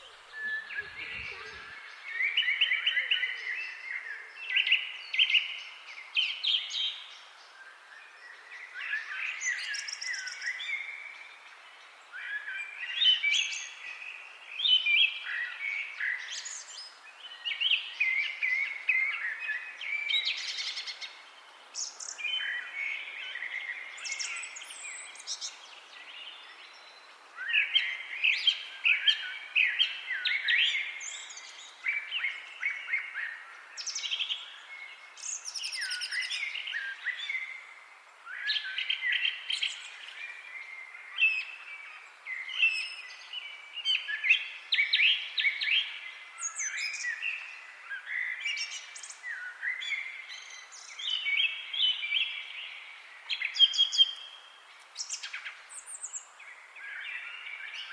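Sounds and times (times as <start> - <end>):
songbirds chirping and singing: 0.0 - 57.9.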